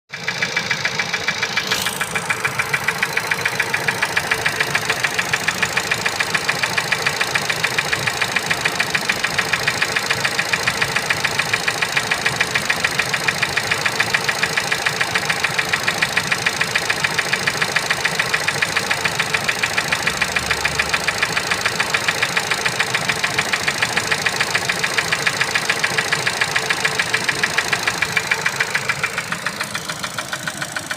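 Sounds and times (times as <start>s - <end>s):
engine idling with rhythmic knock: 0.1s - 30.9s.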